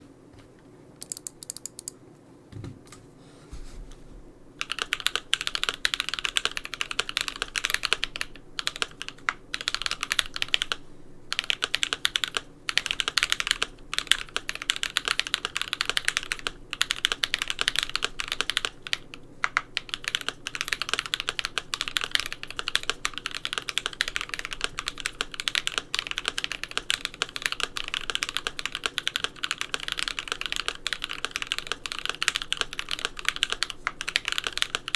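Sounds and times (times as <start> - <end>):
mechanical keyboard typing: 1.0 - 2.0, 4.6 - 34.9.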